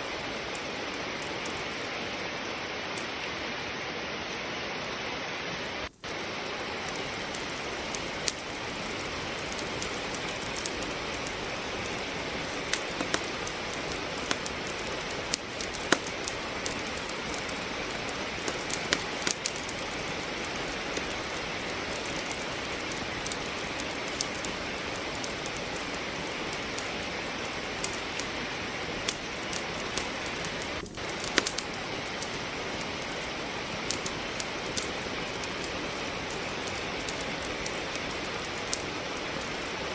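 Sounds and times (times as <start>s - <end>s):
steady rain falling: 0.0s - 39.9s
wood fire crackling: 0.0s - 39.9s.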